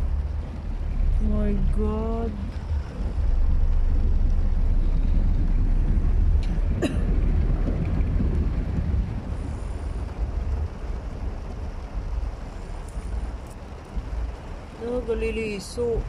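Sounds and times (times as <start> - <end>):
car cabin rumble in heavy rain: 0.0 - 16.0.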